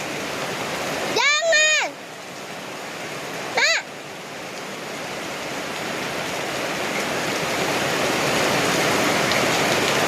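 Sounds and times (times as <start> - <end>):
heavy rain: 0.0 - 10.0
rushing runoff water: 0.0 - 10.0.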